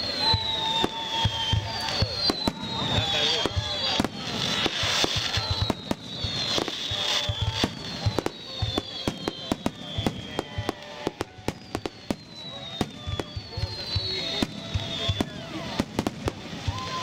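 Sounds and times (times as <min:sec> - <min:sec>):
falling firework whistles: 0:00.0 - 0:17.0
firework bangs and crackles: 0:00.0 - 0:17.0.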